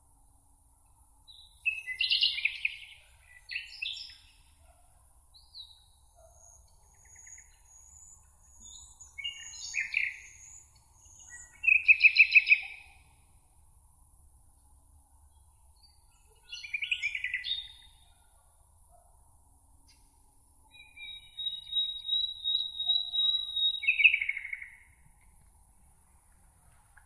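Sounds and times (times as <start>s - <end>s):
songbirds chirping: 0.8s - 13.3s, 14.6s - 19.1s, 19.8s - 26.4s.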